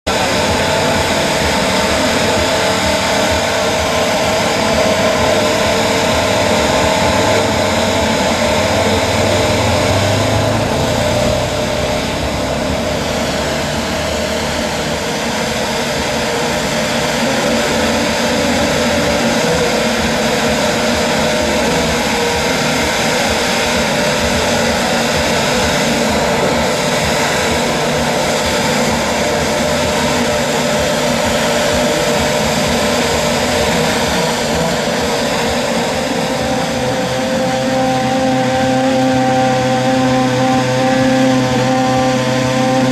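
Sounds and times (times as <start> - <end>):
racing car engines at high revs: 0.0 - 42.9.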